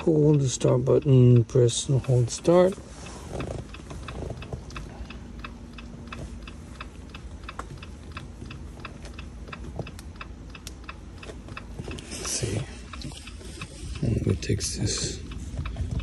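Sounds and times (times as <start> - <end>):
hazard light flasher ticking: 0.0 - 16.0.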